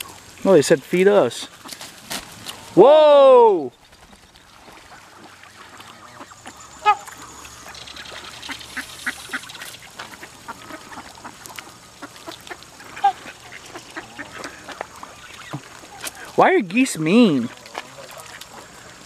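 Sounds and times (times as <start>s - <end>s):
ducks and geese calling: 0.0s - 2.9s, 3.6s - 19.0s.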